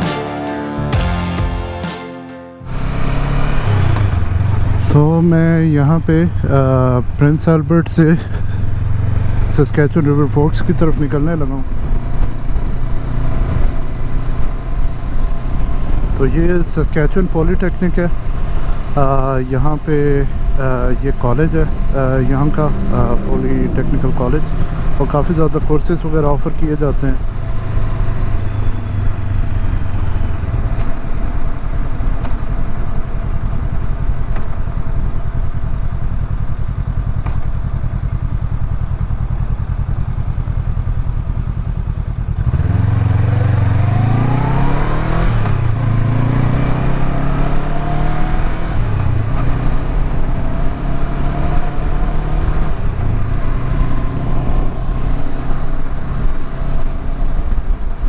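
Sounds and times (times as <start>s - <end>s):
motorcycle engine revving: 2.6s - 16.5s, 17.9s - 57.6s.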